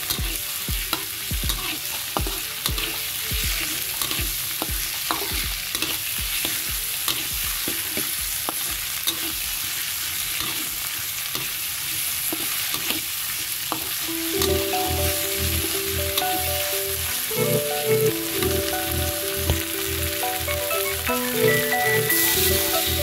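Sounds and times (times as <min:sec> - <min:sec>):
oil sizzling: 0:00.0 - 0:23.0.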